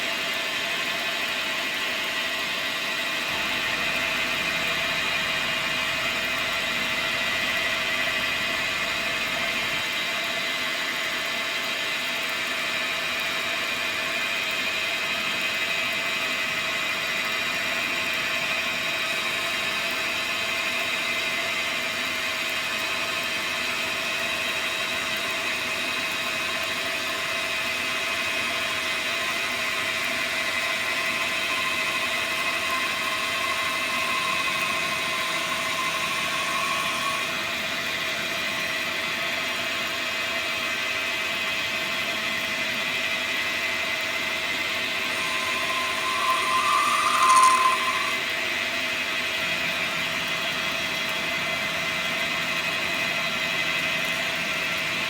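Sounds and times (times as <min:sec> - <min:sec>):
lathe running with high whine: 0:00.0 - 0:55.0.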